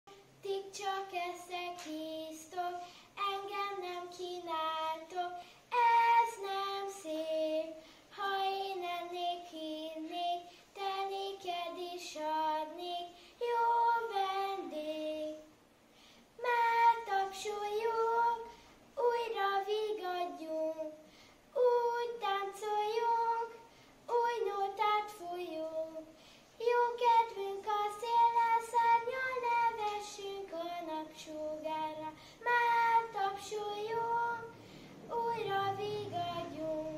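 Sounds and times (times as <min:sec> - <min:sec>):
boy singing unaccompanied: 0:00.1 - 0:15.5, 0:16.4 - 0:36.9.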